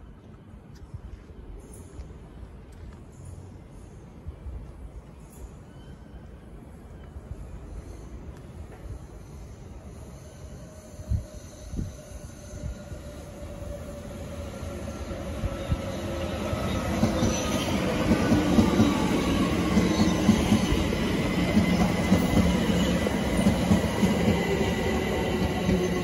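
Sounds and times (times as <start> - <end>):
electric train rumble and hum: 1.5 - 26.0.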